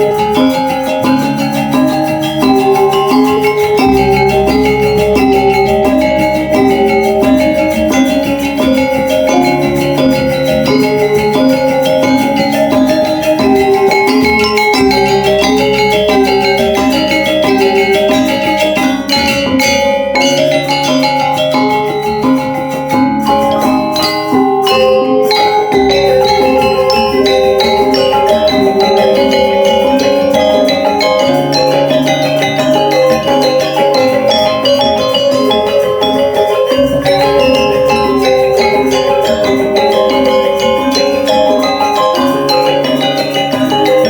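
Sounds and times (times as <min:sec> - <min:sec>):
metallophones playing fast patterns: 0:00.0 - 0:44.0.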